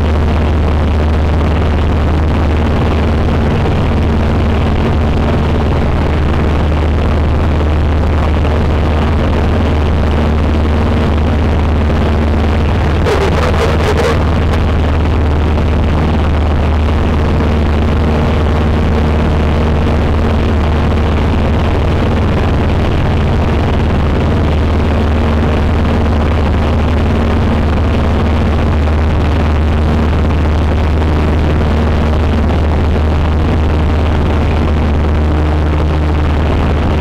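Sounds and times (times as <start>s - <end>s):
small plane engine and propeller: 0.0s - 37.0s.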